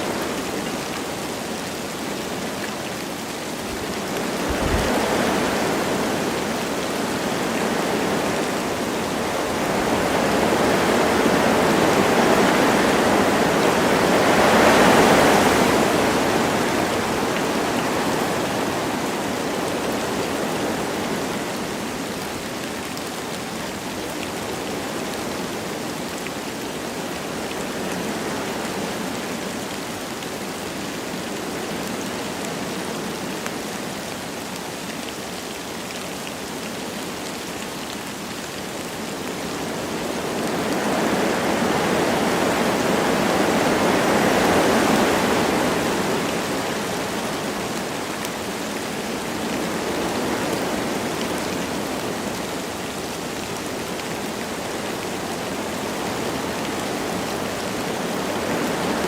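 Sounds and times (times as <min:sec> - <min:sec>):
light rain: 0:00.0 - 0:59.0
wind through forest trees: 0:00.0 - 0:59.0.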